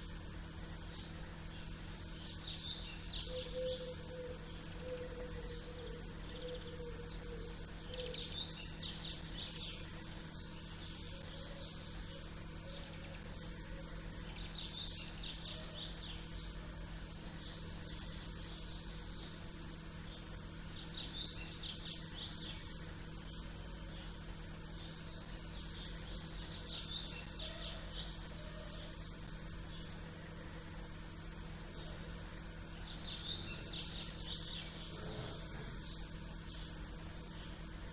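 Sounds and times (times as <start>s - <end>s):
low background hum: 0.0s - 37.9s
small birds twittering: 0.0s - 37.9s.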